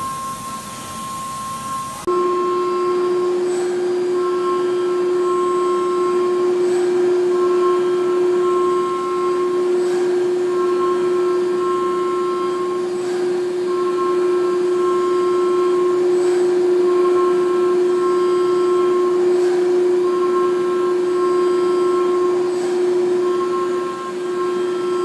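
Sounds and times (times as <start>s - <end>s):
machine whine: 0.0s - 25.0s
milling machine hum: 0.0s - 25.0s.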